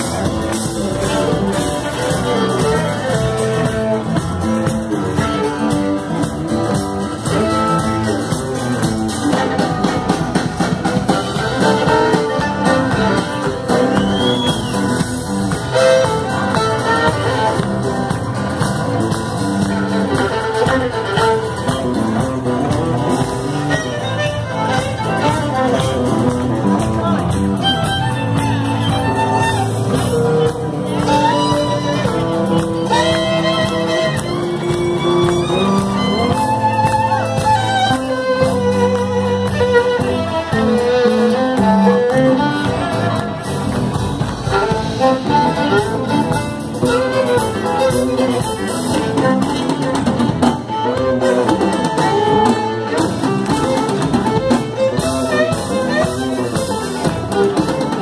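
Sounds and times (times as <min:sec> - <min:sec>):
acoustic guitar: 0:00.0 - 0:58.0
electric bass: 0:00.0 - 0:58.0
fiddle: 0:00.0 - 0:58.0
frame drum and drum kit: 0:00.0 - 0:58.0.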